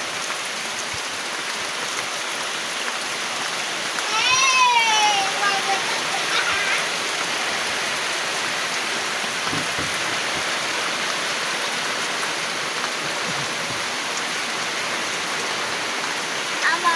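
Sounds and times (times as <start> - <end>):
water rushing: 0.0 - 16.9.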